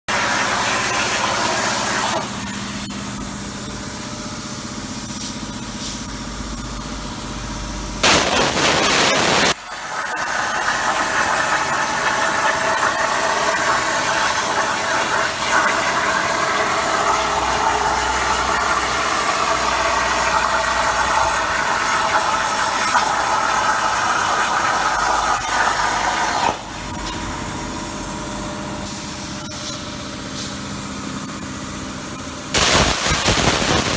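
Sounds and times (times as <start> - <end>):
plasma cutting arc hissing: 0.2 - 9.6, 12.6 - 28.0, 28.8 - 33.9.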